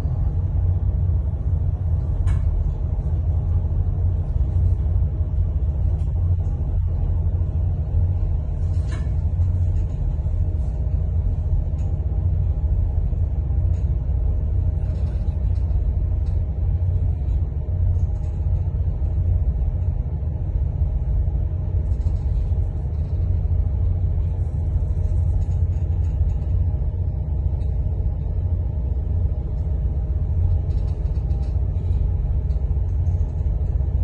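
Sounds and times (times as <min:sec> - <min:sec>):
boat engine rumble: 0:00.0 - 0:34.0.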